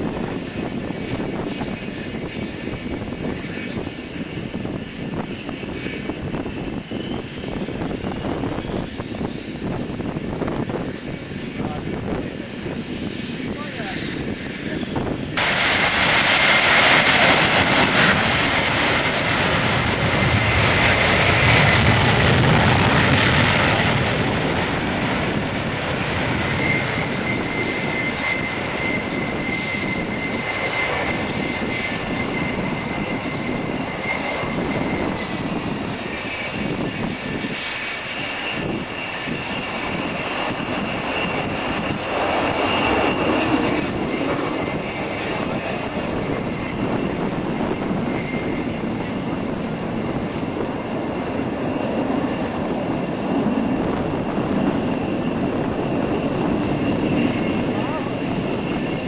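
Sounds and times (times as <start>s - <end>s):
jet engines high whine: 0.0s - 59.0s.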